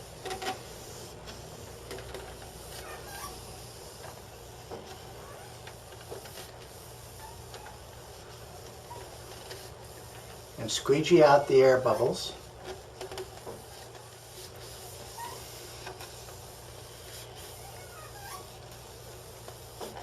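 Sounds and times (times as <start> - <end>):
hand rubbing decal on tube: 0.0 - 20.0.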